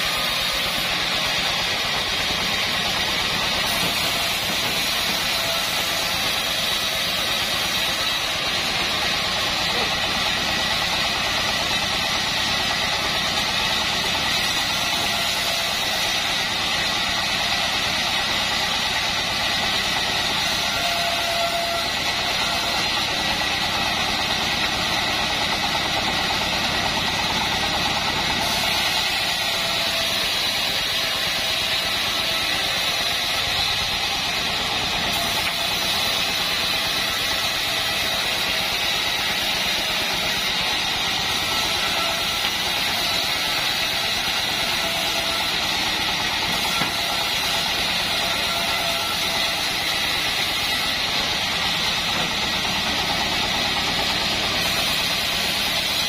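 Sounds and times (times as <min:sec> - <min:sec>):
bandsaw mill ripping wood: 0:00.0 - 0:56.0.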